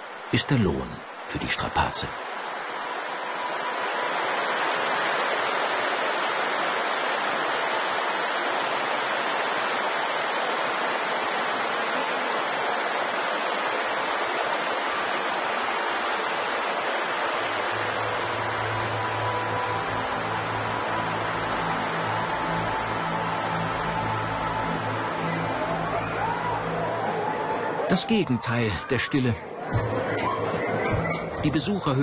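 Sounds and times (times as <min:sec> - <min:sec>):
water rushing in a cave: 0:00.0 - 0:32.0.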